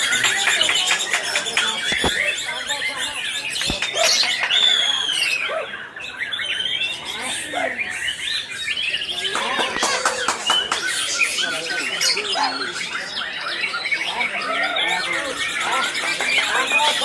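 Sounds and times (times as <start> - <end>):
songbirds chorus of whistles and trills: 0.0 - 17.0.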